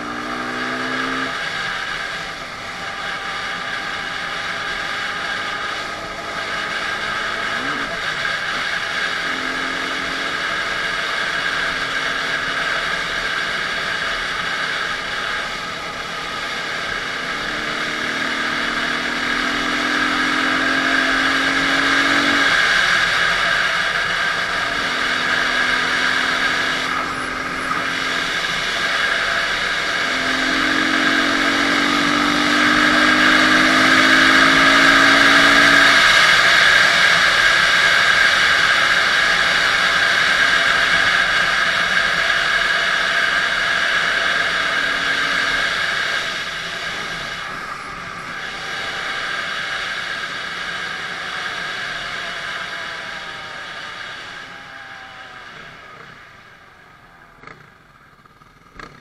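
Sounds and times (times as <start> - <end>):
dirt bike engine revving: 0.0 - 56.2, 57.4 - 59.0.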